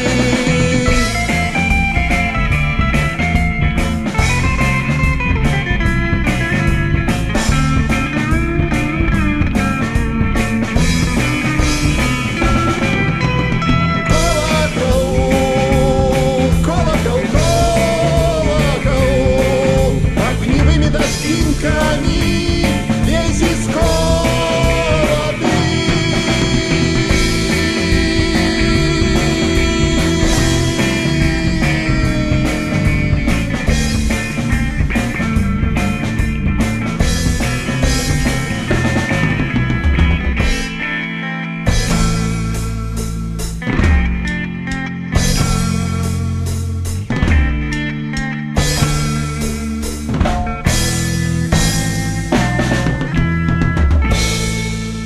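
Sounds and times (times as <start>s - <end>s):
lead guitar bending notes: 0.0s - 55.0s
rock band playing: 0.0s - 55.0s.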